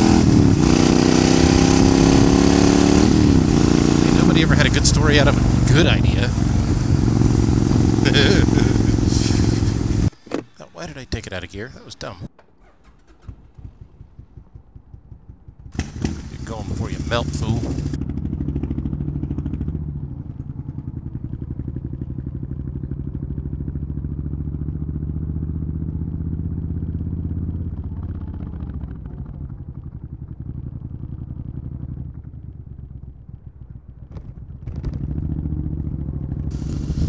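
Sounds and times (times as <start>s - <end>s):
motorcycle engine exhaust beat: 0.0s - 10.2s, 13.2s - 37.0s.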